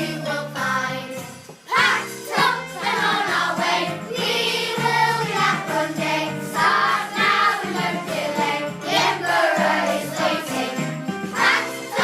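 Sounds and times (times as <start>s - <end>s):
children's choir singing: 0.0s - 12.0s
musical accompaniment: 0.0s - 12.0s.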